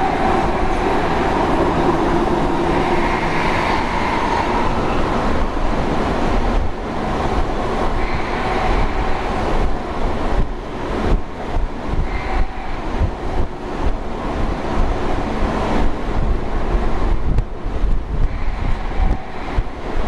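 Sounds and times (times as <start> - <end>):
train rumbling with whine: 0.0 - 20.0.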